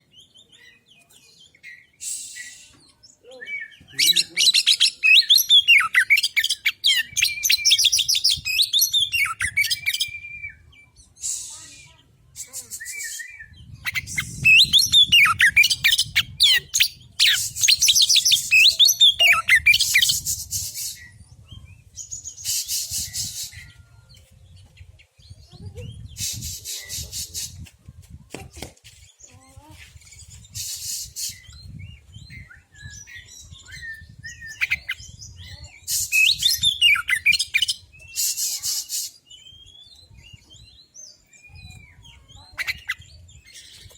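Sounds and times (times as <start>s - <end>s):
bird singing whistled warbled phrases: 1.7s - 23.8s, 30.2s - 43.9s.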